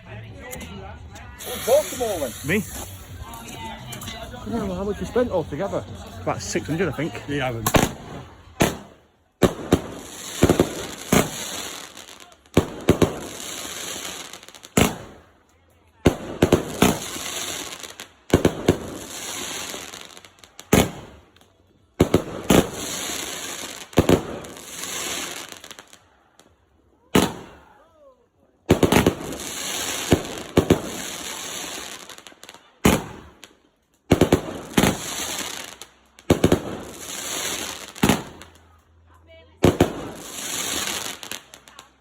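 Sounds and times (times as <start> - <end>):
fireworks bangs and crackling: 1.1 - 27.8, 28.6 - 38.8, 39.6 - 42.0.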